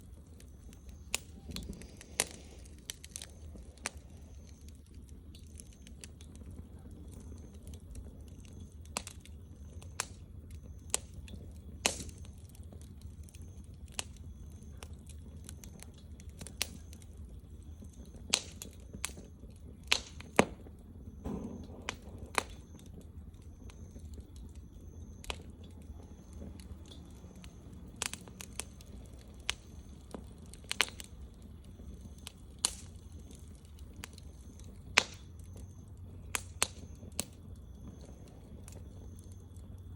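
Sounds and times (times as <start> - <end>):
low steady hum: 0.0 - 39.9
wood fire crackling and popping: 0.0 - 39.9.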